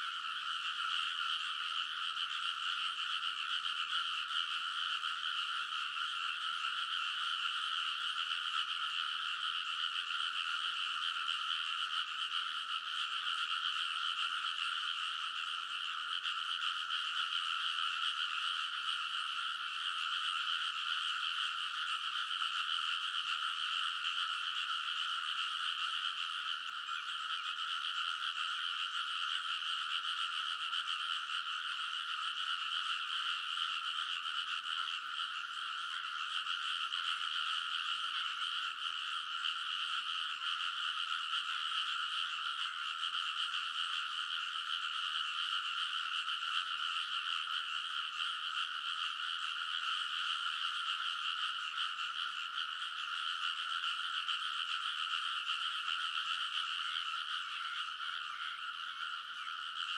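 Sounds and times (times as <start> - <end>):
chorus of frogs calling: 0.0 - 59.9.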